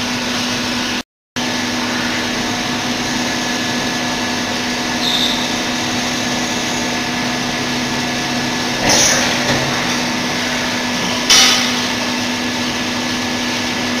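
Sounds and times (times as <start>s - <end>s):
milling machine humming: 0.0s - 14.0s
loud bursts of noise: 1.4s - 14.0s.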